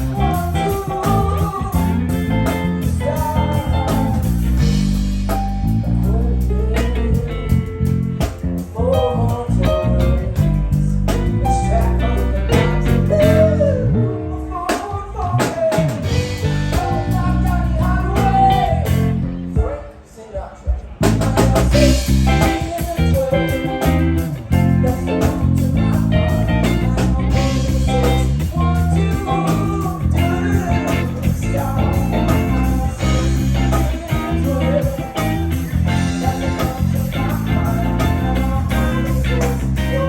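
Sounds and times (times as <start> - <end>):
live blues band playing: 0.0 - 20.0, 20.8 - 40.0.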